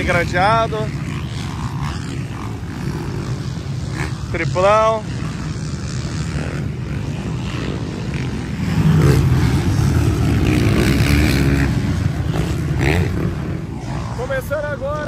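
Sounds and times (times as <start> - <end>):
motocross bikes revving past: 0.0 - 15.0.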